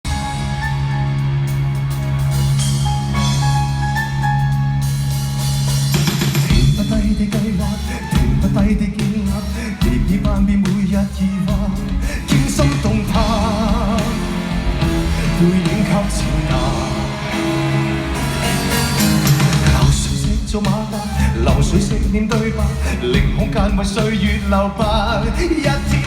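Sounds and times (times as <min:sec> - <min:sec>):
live band music: 0:00.0 - 0:26.0.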